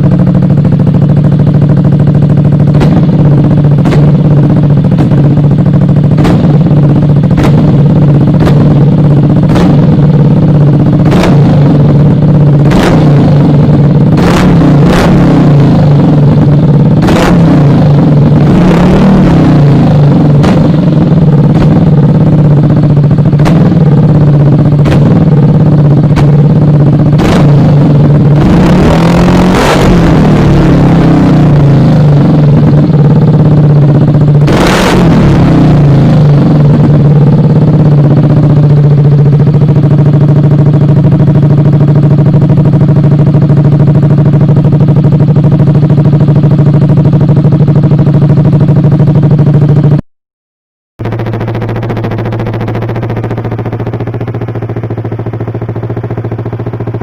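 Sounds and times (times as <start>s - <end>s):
scooter engine idling loudly: 0.0s - 50.0s, 51.0s - 57.0s.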